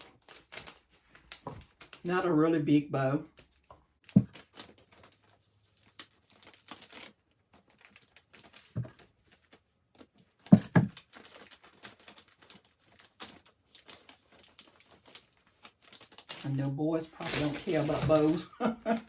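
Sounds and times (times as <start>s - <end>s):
ribbon rustling and crinkling: 0.0s - 2.2s, 3.2s - 19.0s.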